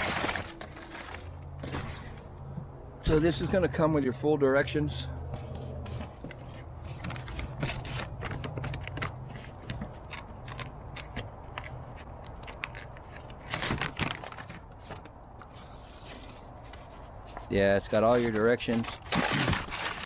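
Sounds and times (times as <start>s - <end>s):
paper crackling and scraping: 0.0s - 2.3s, 5.4s - 11.3s, 12.0s - 20.0s
paper rustling: 0.0s - 2.3s, 5.4s - 11.3s, 12.0s - 20.0s.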